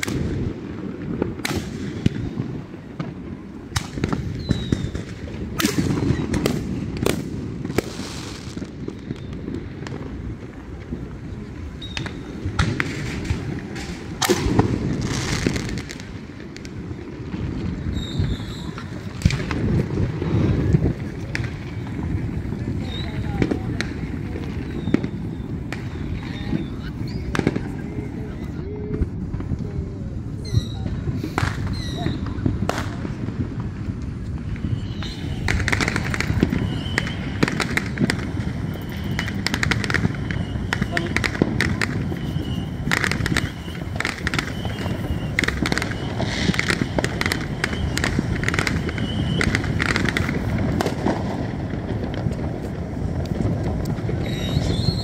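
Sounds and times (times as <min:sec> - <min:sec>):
sharp firework bangs: 0:00.0 - 0:11.1, 0:11.7 - 0:29.6, 0:30.4 - 0:55.0
dense firework crackling: 0:00.0 - 0:55.0
distant fireworks rumble: 0:00.0 - 0:55.0.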